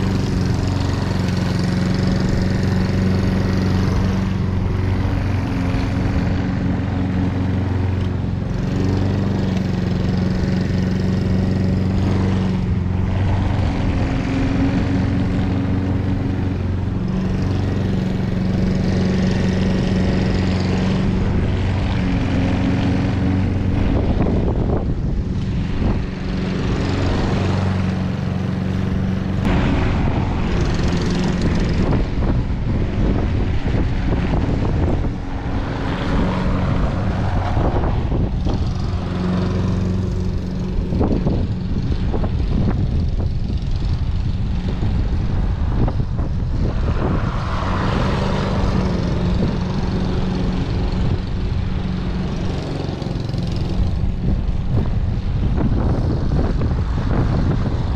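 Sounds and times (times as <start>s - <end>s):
lawn mower engine running: 0.0s - 57.9s.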